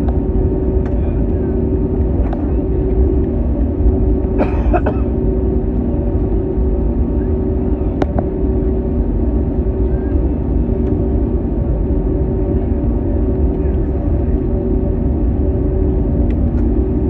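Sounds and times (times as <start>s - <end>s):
aircraft cabin rumble and hum: 0.0s - 17.0s.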